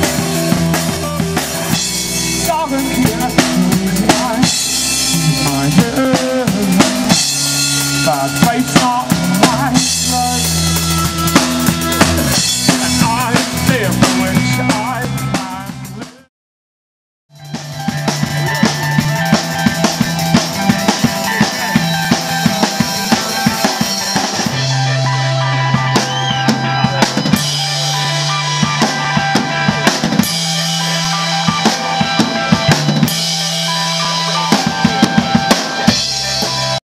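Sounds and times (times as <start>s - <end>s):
drum kit playing: 0.0s - 16.3s, 17.3s - 36.8s
low bass notes: 0.0s - 16.3s, 17.3s - 36.8s.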